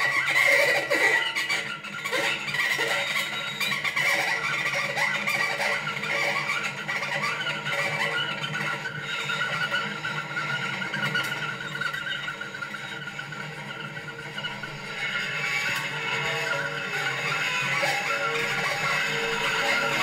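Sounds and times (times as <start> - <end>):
squealing instrument drone: 0.0 - 20.0.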